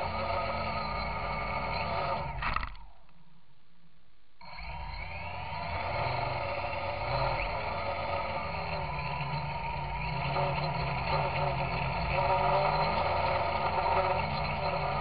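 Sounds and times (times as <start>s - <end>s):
drone motors buzzing: 0.0s - 3.1s, 4.4s - 15.0s.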